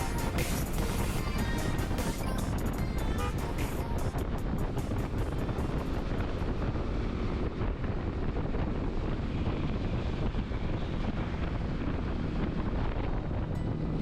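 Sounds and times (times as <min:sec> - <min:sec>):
motorcycle running: 0:00.0 - 0:14.0
wind noise on microphone: 0:00.0 - 0:14.0.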